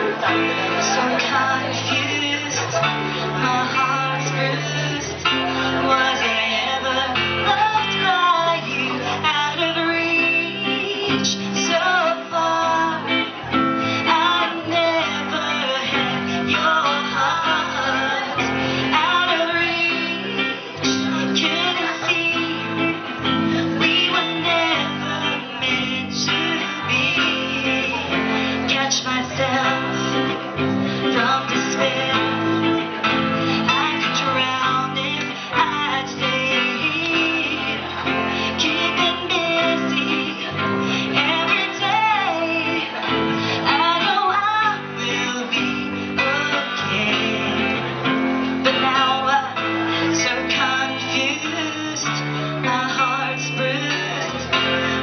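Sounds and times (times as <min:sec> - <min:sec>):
acoustic guitar strumming chords: 0:00.0 - 0:55.0
women singing into microphones: 0:00.0 - 0:55.0.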